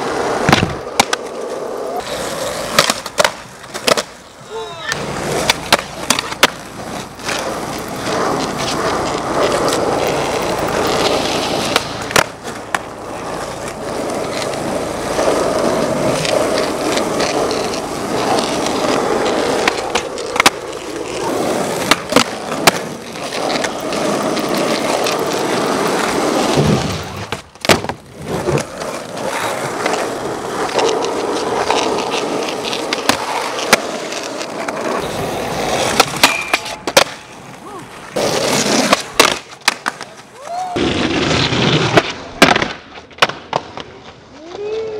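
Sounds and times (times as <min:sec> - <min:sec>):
skateboard tail clacks: 0:00.0 - 0:44.9
skateboard wheels rolling on asphalt: 0:00.0 - 0:44.9.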